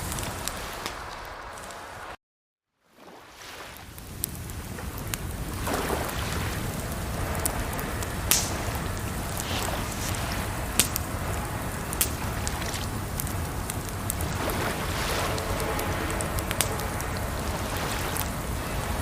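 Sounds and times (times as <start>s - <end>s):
campfire crackling and popping: 0.0s - 2.1s, 3.8s - 19.0s
running water: 2.9s - 19.0s.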